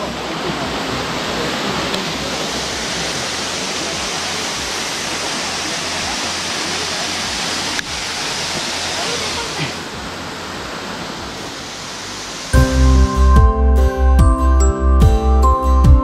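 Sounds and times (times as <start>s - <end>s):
waterfall rushing: 0.0s - 14.1s.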